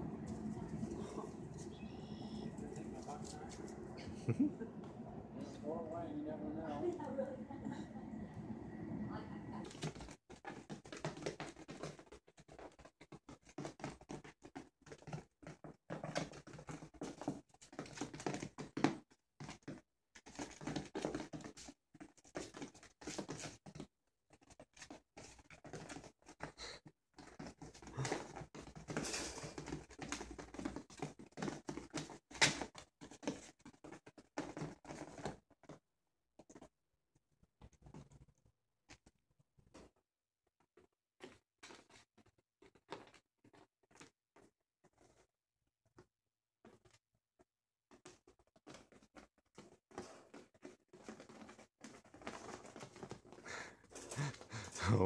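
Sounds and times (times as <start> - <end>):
puppies pattering and scratching: 0.0 - 4.3, 9.6 - 35.8, 36.4 - 36.7, 37.6 - 40.0, 40.6 - 45.3, 45.9 - 47.0, 47.9 - 55.0.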